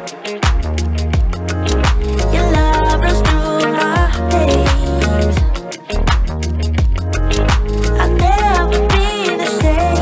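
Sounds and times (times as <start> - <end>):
song with heavy bass and drums: 0.0 - 10.0.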